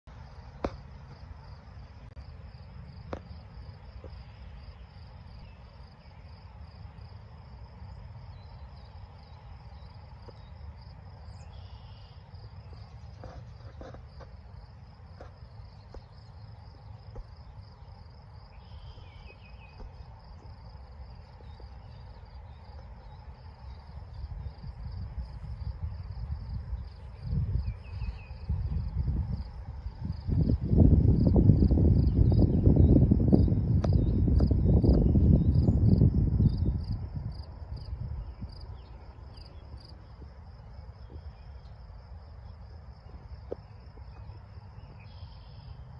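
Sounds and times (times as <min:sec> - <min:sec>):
crickets chirping: 0:00.1 - 0:45.9.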